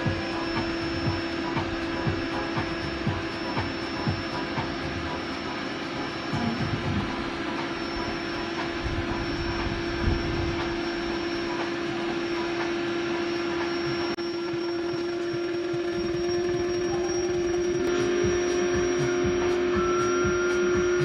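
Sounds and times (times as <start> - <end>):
electric air pump humming: 0.0 - 21.0.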